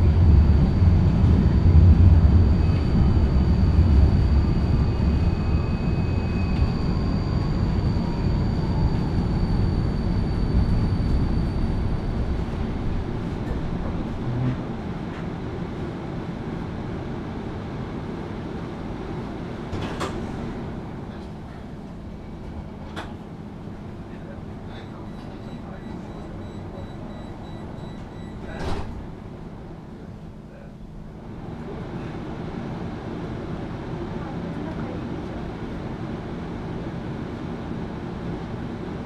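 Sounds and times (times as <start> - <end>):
steady tram hum: 0.0 - 39.0
tram running gear rumble: 0.0 - 39.0
tram whine: 0.0 - 39.0.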